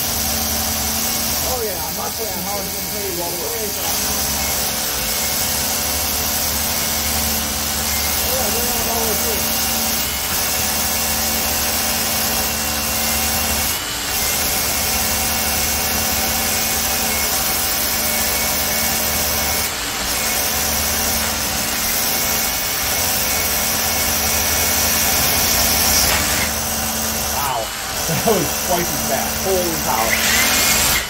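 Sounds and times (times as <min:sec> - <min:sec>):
rotary hammer drilling into brick: 0:00.0 - 0:31.0.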